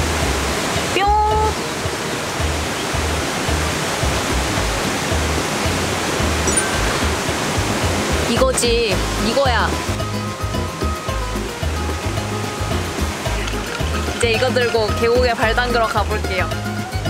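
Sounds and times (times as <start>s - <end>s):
stream rushing: 0.0s - 17.0s.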